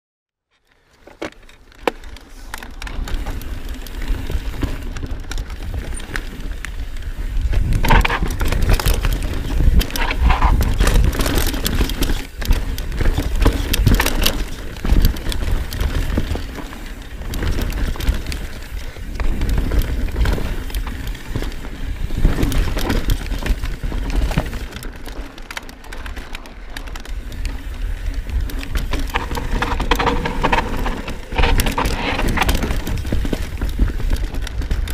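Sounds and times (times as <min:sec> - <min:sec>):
bike frame and chain rattling: 0:00.7 - 0:34.9
bike tyres rolling over rock: 0:00.7 - 0:34.9
wind rumble on microphone: 0:03.2 - 0:25.0, 0:27.0 - 0:34.9.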